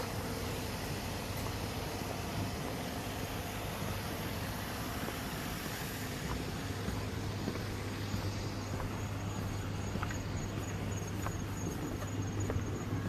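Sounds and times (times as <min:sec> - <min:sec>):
noisy wash: 0:00.0 - 0:13.0.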